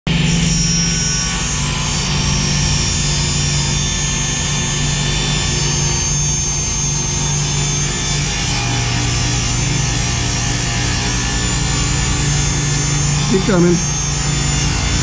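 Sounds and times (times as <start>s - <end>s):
table saw cutting board: 0.1s - 15.0s.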